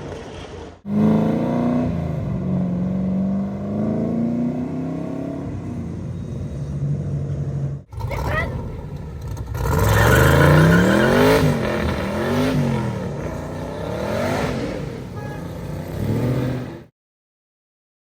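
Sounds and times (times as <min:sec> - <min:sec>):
car engine accelerating: 0:00.8 - 0:16.9.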